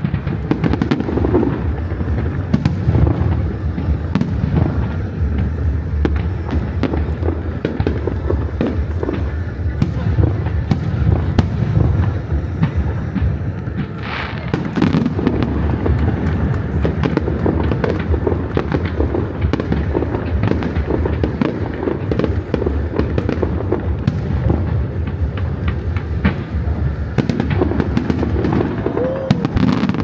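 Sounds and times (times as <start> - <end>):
fireworks crackling and popping: 0.0 - 30.0
low fireworks booms: 0.0 - 30.0.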